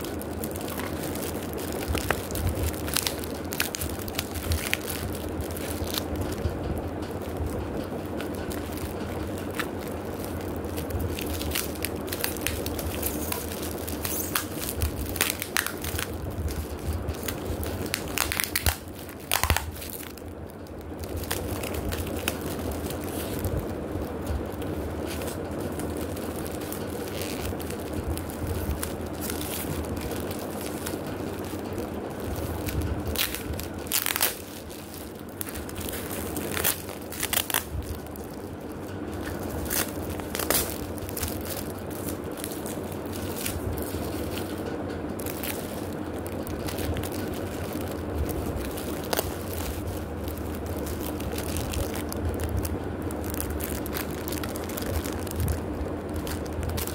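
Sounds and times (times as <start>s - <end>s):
plastic packaging crinkling: 0.0s - 56.9s.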